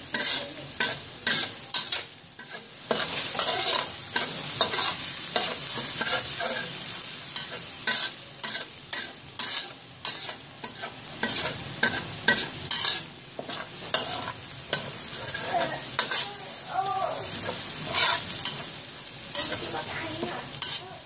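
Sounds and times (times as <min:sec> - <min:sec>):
garlic sizzling in hot oil: 0:00.0 - 0:21.0
spatula scraping and knocking pan: 0:00.1 - 0:06.7, 0:07.4 - 0:16.3, 0:17.3 - 0:18.7, 0:19.3 - 0:20.9.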